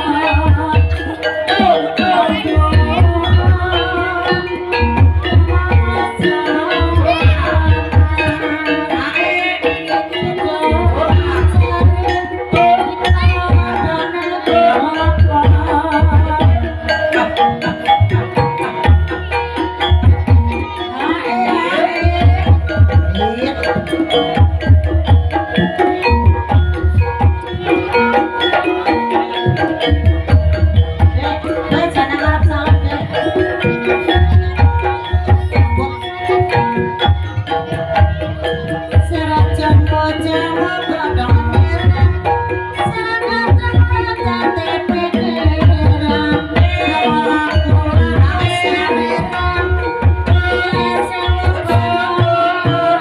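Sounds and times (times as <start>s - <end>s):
metallophone melody: 0.0s - 53.0s.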